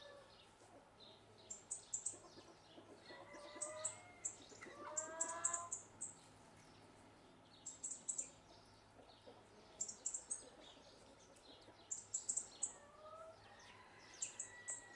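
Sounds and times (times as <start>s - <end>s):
small birds chirping: 0.0s - 14.9s.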